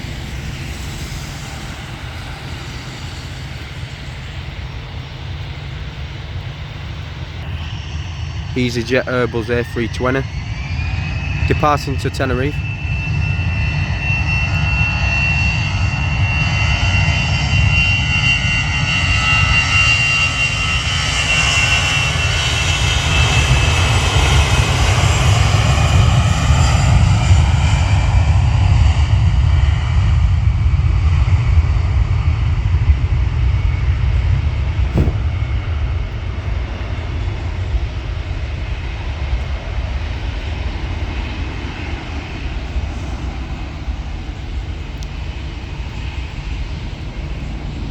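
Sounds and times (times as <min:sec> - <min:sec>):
jet engines at takeoff power: 0:00.0 - 0:47.9.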